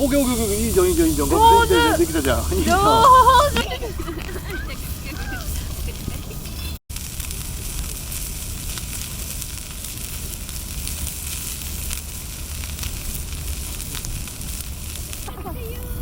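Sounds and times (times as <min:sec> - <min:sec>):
food sizzling in a frying pan: 0:00.0 - 0:16.0
wood fire crackling: 0:00.0 - 0:16.0.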